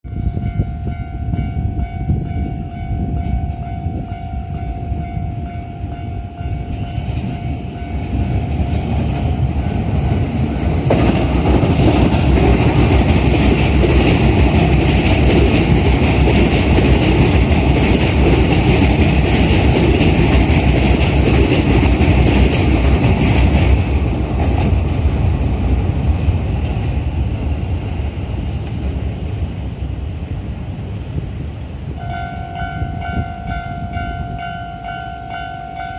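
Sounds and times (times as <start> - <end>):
electric train passing: 0.1 - 35.9.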